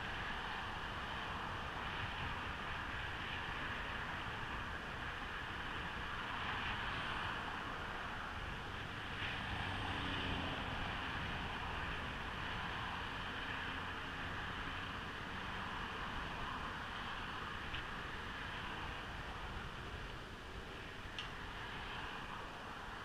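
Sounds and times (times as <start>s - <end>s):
skateboard wheels rolling on asphalt: 0.0s - 23.0s
wind noise on microphone: 0.0s - 23.0s.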